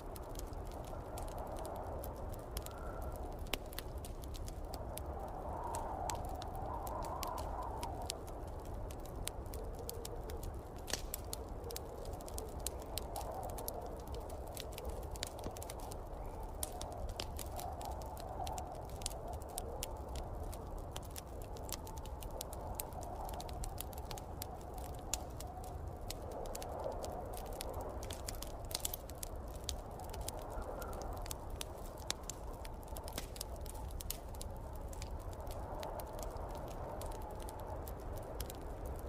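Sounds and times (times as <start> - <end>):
snowstorm wind rushing: 0.0 - 39.0
wood fire crackling and popping: 0.0 - 39.0.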